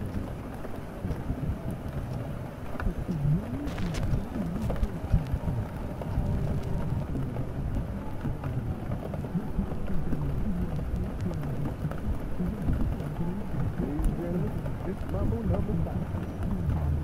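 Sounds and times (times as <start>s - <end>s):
muffled pitch-gliding sound: 0.0s - 17.0s
steady rain: 0.0s - 17.0s.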